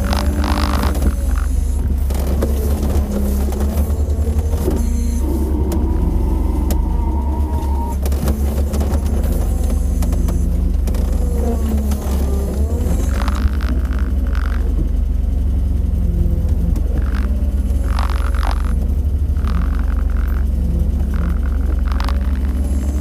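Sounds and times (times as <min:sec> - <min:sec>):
car engine low rumble: 0:00.0 - 0:23.0.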